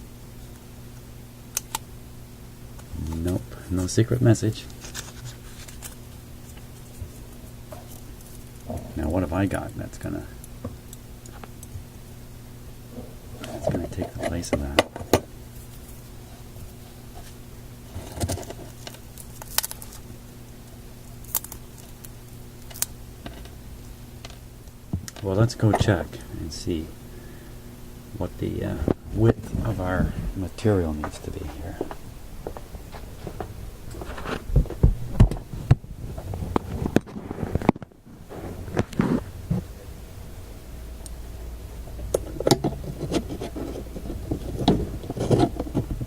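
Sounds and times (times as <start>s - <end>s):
low electrical hum: 0.0s - 46.0s.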